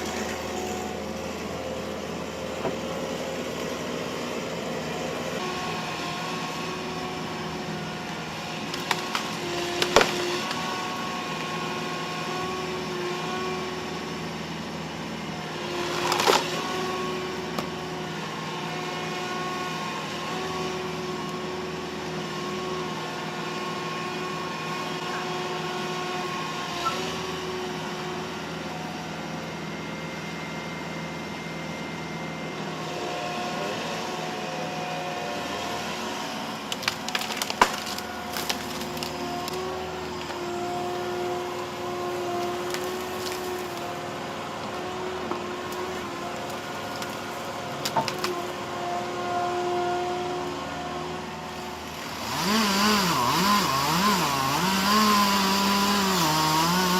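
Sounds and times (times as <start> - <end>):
heavy machine engine whining hum: 0.0 - 56.9.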